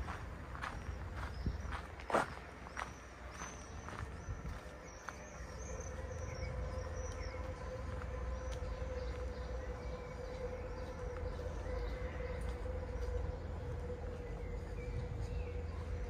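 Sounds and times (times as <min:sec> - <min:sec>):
steady droning hum: 0:00.0 - 0:16.0
small birds chirping: 0:00.5 - 0:16.0.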